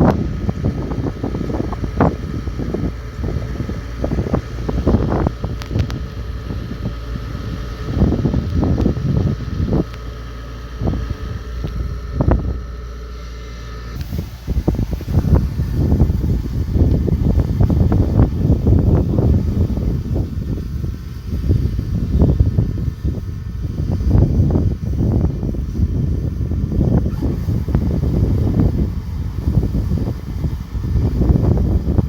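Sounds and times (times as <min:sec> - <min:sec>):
wind buffeting microphone: 0:00.0 - 0:12.9, 0:14.0 - 0:32.0
combine harvester engine rumble: 0:00.0 - 0:32.0
faint steady whine: 0:00.0 - 0:32.0.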